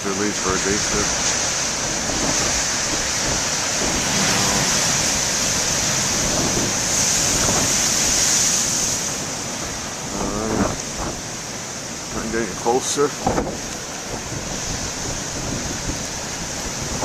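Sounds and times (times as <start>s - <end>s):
ocean waves breaking on rocks: 0.0s - 17.0s
wind buffeting microphone: 0.2s - 17.0s.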